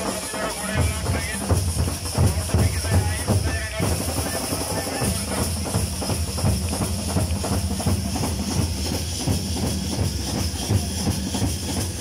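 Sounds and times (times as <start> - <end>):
large crowd noise: 0.0 - 12.0
rapid festival drumming: 0.0 - 12.0.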